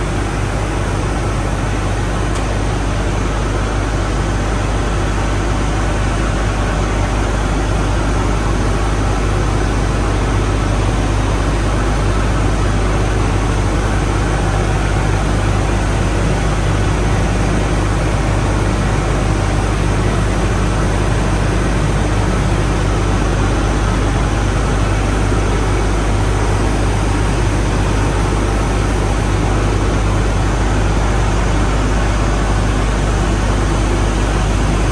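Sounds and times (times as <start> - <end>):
machinery and water flow hum: 0.0 - 34.9.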